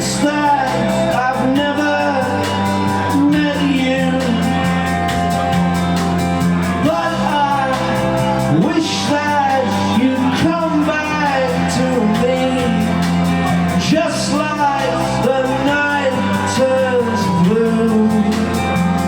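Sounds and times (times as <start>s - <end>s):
drums with steady cymbal beat: 0.0s - 19.0s
guitar: 0.0s - 19.0s
live rock band playing: 0.0s - 19.0s
sliding singing-like melody line: 0.0s - 19.0s.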